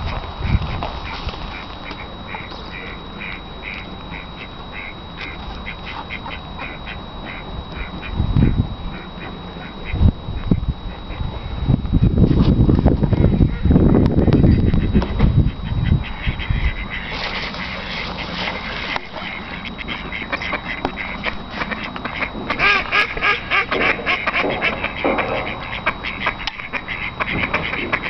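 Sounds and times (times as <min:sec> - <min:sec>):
ducks quacking: 0:00.0 - 0:12.1, 0:13.0 - 0:28.0.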